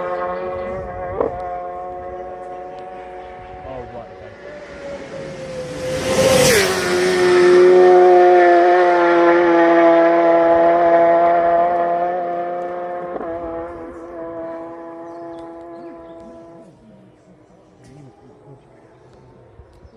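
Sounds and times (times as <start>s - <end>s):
motorcycle passing at speed: 0.0s - 16.8s.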